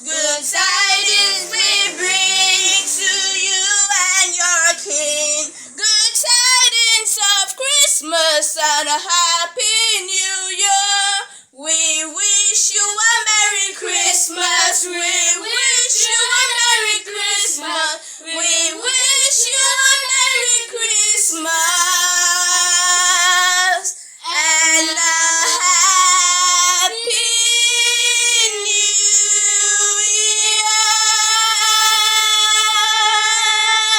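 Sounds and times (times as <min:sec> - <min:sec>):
high solo voice singing carol: 0:00.0 - 0:33.9.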